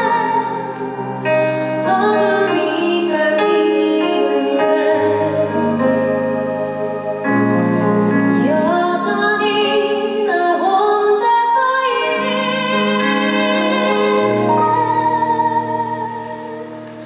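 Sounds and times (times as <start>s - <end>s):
woman singing a slow ballad: 0.0s - 6.7s, 8.2s - 17.0s
instrumental accompaniment chords: 0.0s - 17.0s.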